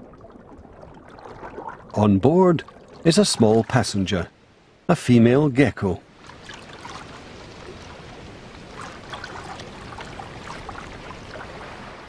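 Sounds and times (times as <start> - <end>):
water lapping and sloshing: 0.0 - 4.3, 6.0 - 12.0.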